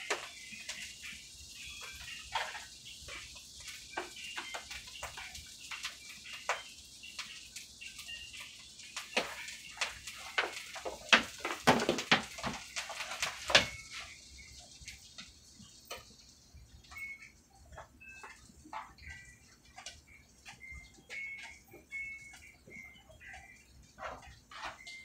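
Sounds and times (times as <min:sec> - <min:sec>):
food sizzling in a skillet: 0:00.0 - 0:25.0.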